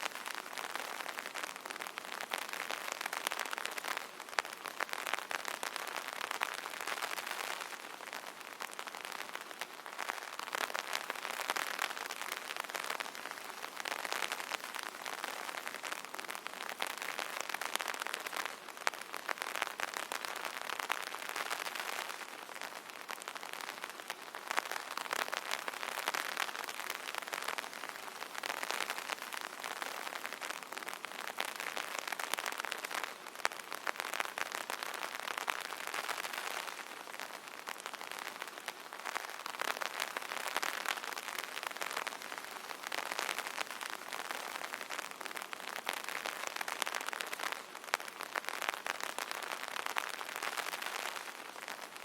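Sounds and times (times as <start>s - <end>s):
rain pattering on umbrella: 0.0s - 52.0s.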